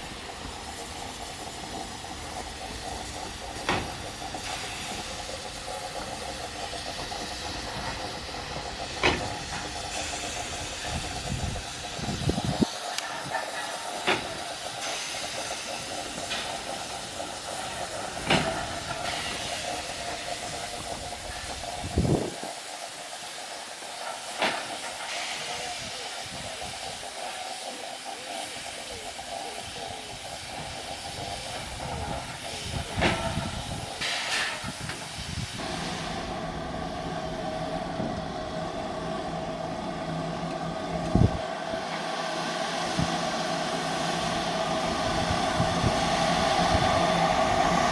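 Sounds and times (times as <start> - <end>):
steam locomotive hissing: 0.0 - 47.9.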